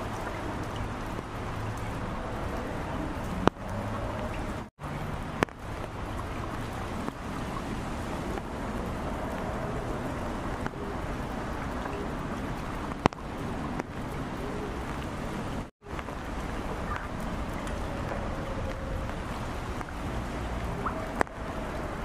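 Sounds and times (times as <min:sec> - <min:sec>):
rain falling on standing water: 0:00.0 - 0:22.0.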